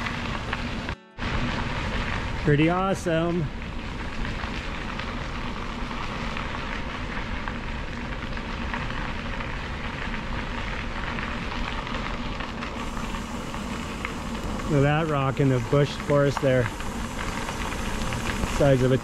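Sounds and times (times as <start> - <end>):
bicycle tyres crunching gravel: 0.0 - 19.0.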